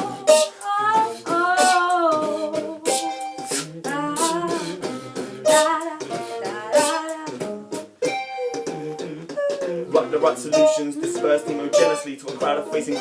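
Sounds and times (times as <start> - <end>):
person singing: 0.0 - 7.7, 8.3 - 13.0
plucked strings: 0.0 - 13.0.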